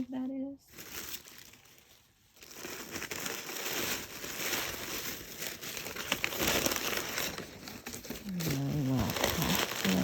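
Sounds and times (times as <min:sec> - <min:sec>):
packaging wrap crinkling: 0:00.0 - 0:10.0.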